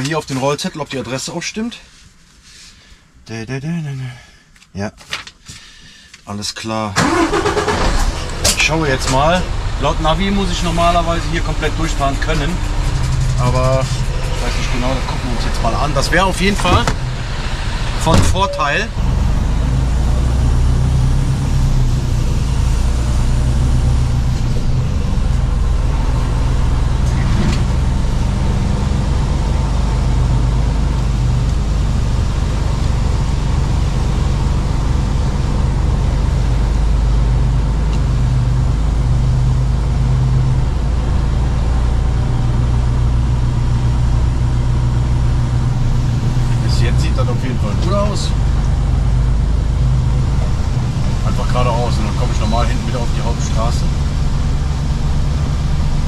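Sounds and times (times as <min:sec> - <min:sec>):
truck diesel engine drone: 0:07.0 - 0:56.0.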